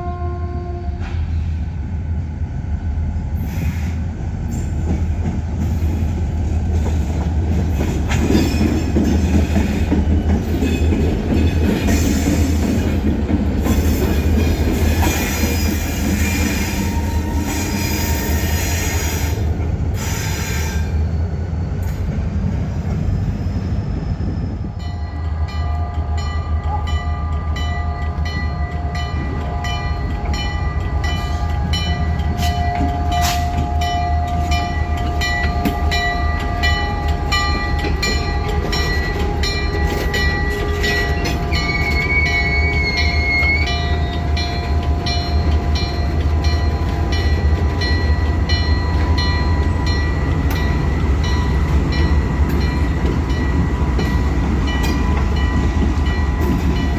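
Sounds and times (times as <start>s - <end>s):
freight train rumbling: 0.0s - 56.9s
rail clicks: 0.9s - 1.6s, 4.4s - 20.6s, 21.7s - 56.9s.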